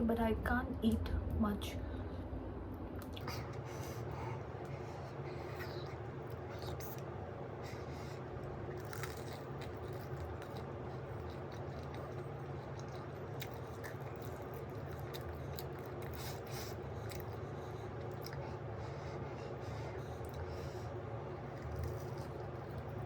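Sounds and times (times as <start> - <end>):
low background hum: 0.0 - 23.0
person chewing food: 3.0 - 23.0.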